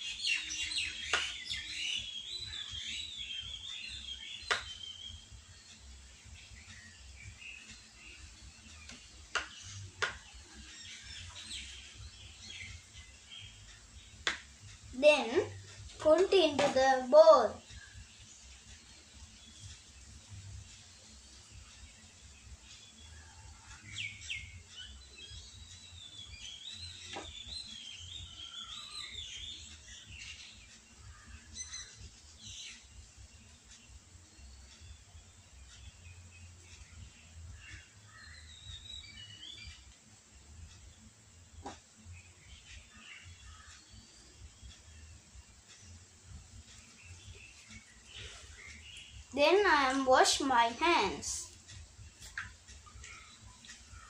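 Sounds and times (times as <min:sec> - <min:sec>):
birds chirping faintly: 0:00.0 - 0:54.0.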